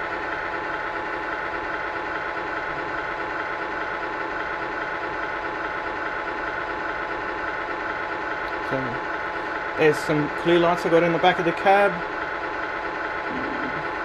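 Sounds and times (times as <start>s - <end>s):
electronic truck engine idle sound: 0.0s - 14.0s.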